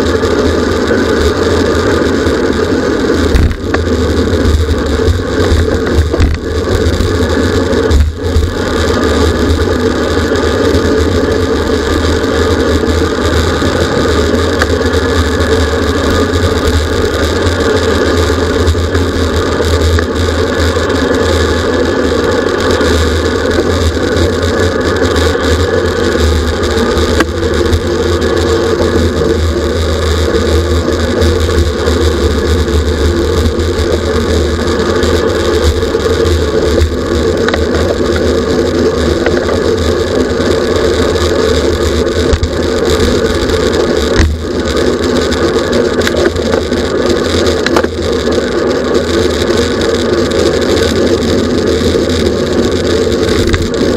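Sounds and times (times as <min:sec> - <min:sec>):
low rumble: 0:00.0 - 0:53.9
wind rush on microphone: 0:00.0 - 0:53.9.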